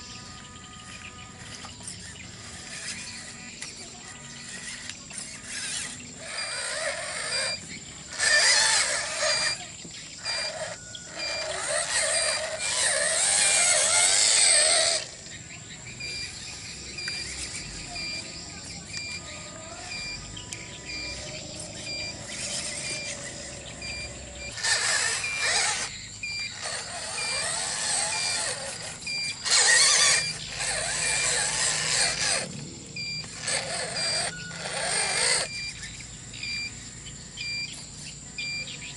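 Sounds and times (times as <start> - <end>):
toy truck motors whining: 0.0 - 38.9.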